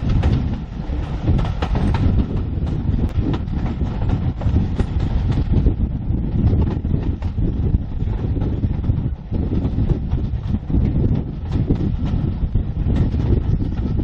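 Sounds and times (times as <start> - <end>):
rattles and knocks: 0.0 - 14.0
train rumbling: 0.0 - 14.0
wind buffeting microphone: 0.0 - 14.0.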